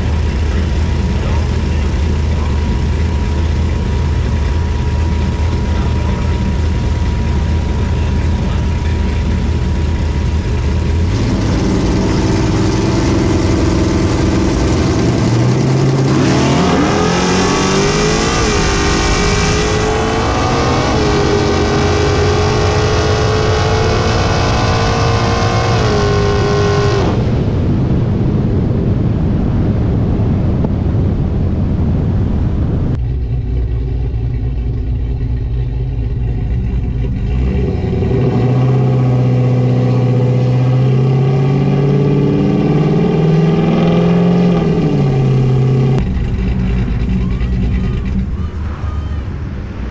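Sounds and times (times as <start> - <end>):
pickup truck engine at full throttle: 0.0 - 49.9
supercharger whine: 0.0 - 49.9.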